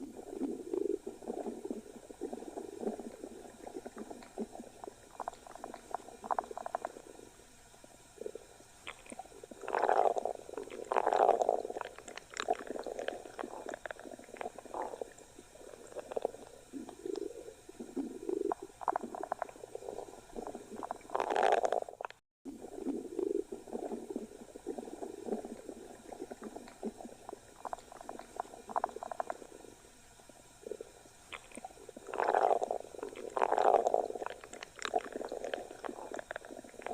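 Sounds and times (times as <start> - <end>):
stomach growling: 0.0 - 36.9.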